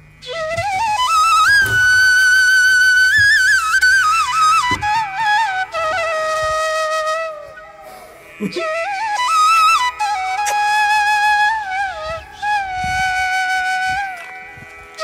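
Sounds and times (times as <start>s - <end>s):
ornamented melody with wavering notes: 0.0s - 15.0s.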